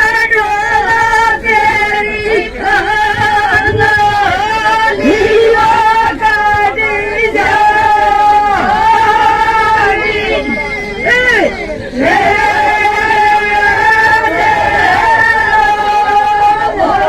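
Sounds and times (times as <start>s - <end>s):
women singing folk song: 0.0s - 17.0s.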